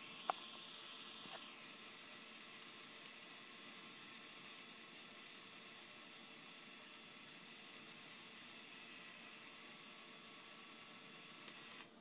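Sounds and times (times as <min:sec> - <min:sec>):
electric motor whirring: 0:00.0 - 0:11.9.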